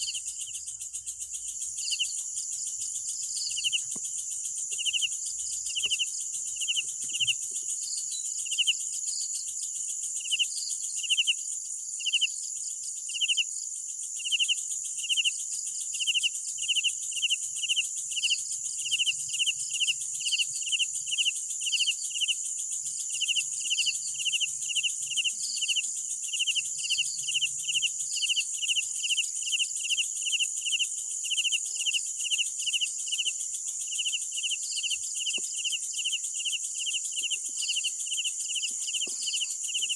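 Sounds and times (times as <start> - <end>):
chorus of insects trilling: 0.0 - 39.9
cricket chirping: 0.0 - 39.9.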